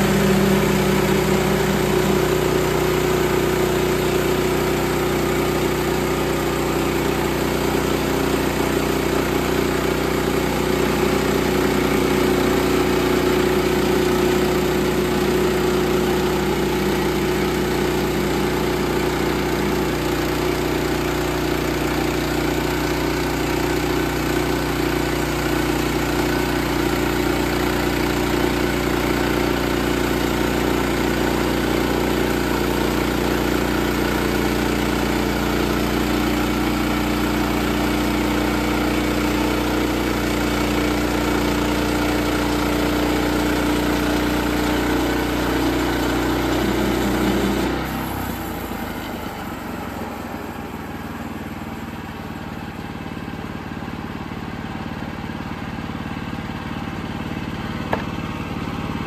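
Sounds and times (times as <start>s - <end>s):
gas engine running: 0.0s - 59.0s.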